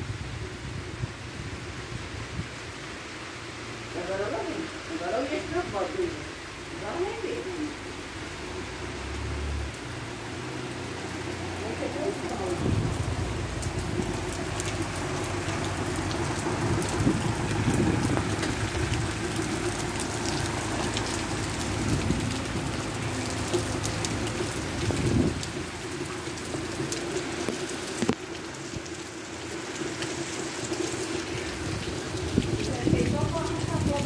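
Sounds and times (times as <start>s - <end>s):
rain pouring: 0.0s - 34.0s.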